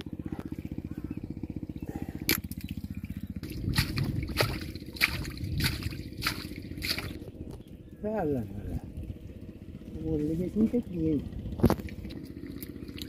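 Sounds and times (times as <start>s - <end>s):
mud and water squelching: 0.0s - 7.8s, 9.2s - 13.0s
small engine running: 0.0s - 13.0s.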